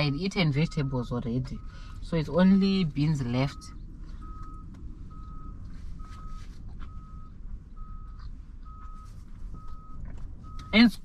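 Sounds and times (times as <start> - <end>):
low background rumble: 0.0 - 11.0
reversing alarm beeping: 0.0 - 11.0.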